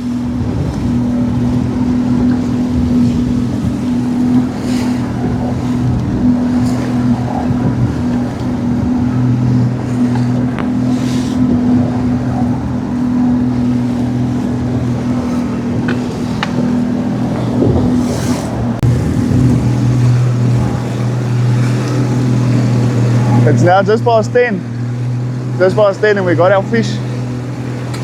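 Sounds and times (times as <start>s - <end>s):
boat motor humming: 0.0s - 28.0s
water noise: 0.0s - 28.0s
wind: 0.0s - 28.0s.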